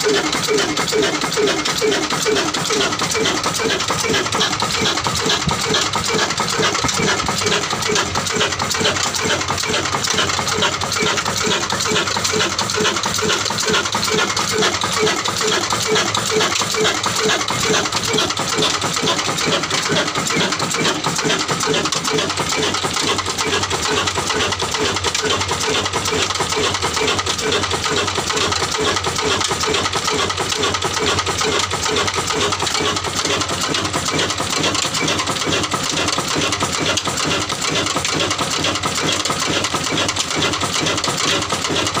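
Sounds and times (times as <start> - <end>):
diesel engine clattering: 0.0 - 42.0.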